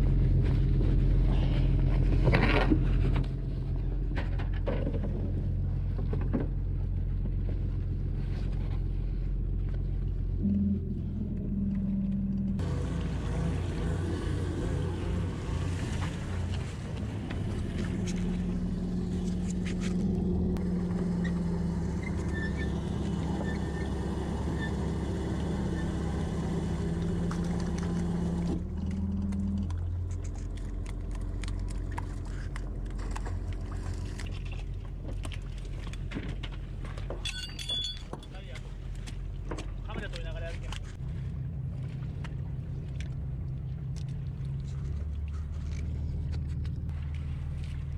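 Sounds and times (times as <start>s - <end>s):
boat engine idling: 0.0s - 47.9s.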